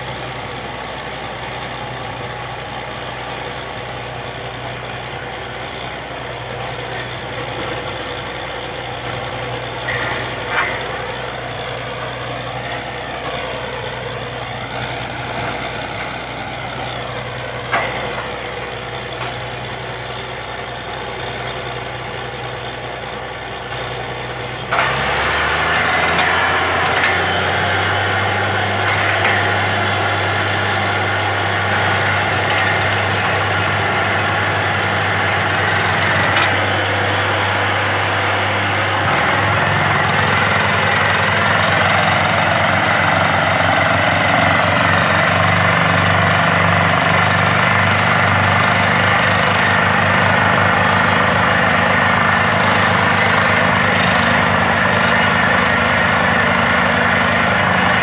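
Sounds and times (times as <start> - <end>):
drilling rig engine running: 0.0 - 58.0.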